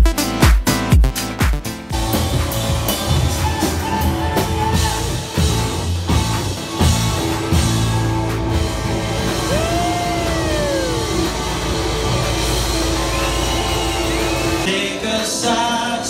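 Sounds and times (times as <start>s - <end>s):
live rock band playing: 0.0s - 14.7s.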